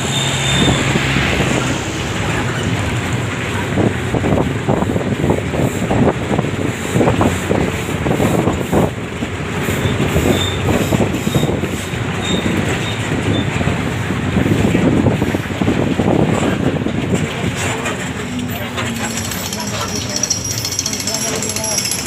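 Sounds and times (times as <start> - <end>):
vehicle body rattling: 0.1 - 22.0.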